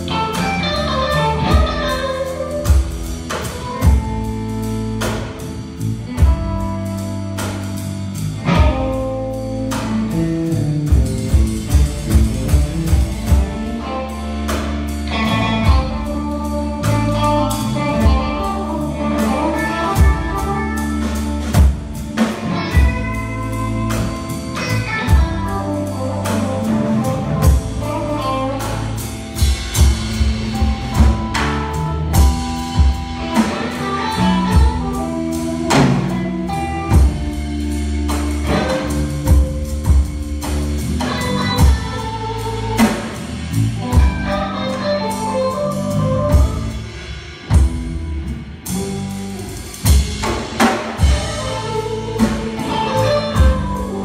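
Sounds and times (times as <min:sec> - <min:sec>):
blues-rock band playing: 0:00.0 - 0:54.0
drum kit beat: 0:00.0 - 0:54.0
electric guitar: 0:00.0 - 0:54.0.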